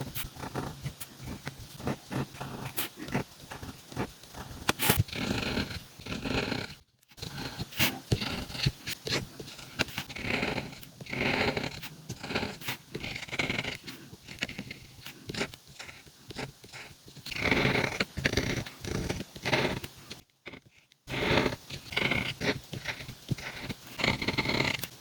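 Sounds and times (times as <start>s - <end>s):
pen scratching across paper: 0.0s - 25.0s.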